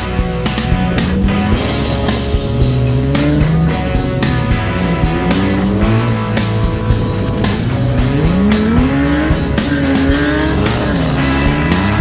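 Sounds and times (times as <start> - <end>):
engine revving: 0.0 - 12.0
rock music with steady beat: 0.0 - 12.0.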